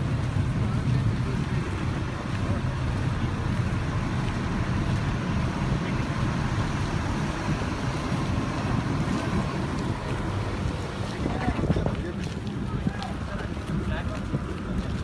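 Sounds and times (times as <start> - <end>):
low rumbling outdoor noise: 0.0 - 15.0.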